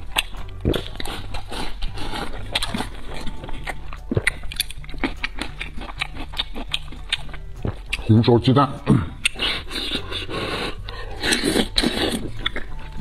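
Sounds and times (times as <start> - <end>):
wet chewing and lip-smacking: 0.0 - 8.2, 8.8 - 13.0.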